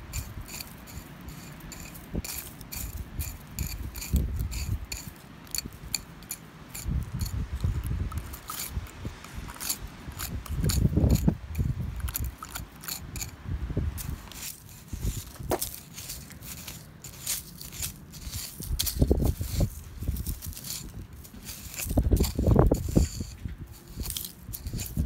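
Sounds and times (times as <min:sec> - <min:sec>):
screwdriver scraping gravelly soil: 0:00.0 - 0:25.0.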